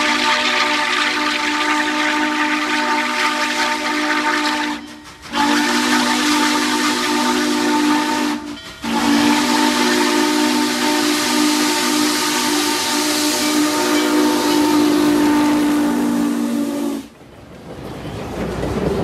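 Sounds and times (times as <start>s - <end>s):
steam hissing: 0.0s - 17.1s
steam whistle blowing: 0.0s - 17.1s.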